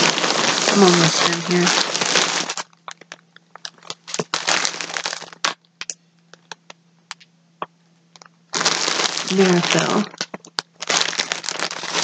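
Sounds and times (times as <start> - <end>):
packaging crinkling: 0.0 - 7.3, 8.1 - 12.0.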